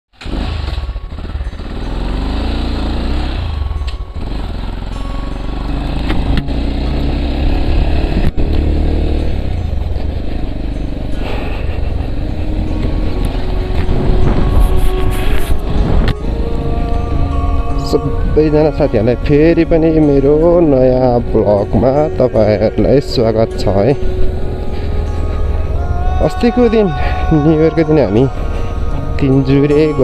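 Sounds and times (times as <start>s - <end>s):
motorcycle engine revving: 0.2s - 30.0s
heavy low rumble: 0.6s - 30.0s.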